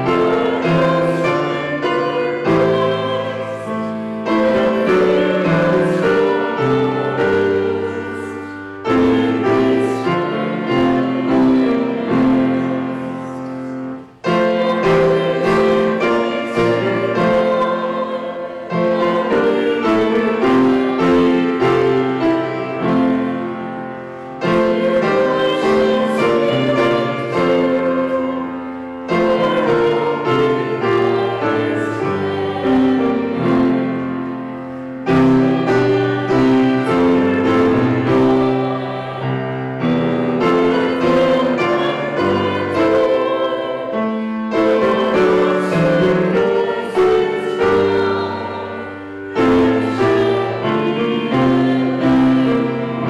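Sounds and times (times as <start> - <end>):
grand piano: 0.0 - 53.0
voices singing a hymn: 0.0 - 53.0.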